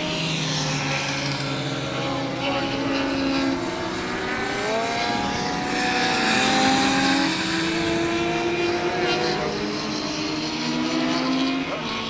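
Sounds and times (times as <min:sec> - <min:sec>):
racing motorcycles at high revs: 0:00.0 - 0:12.0.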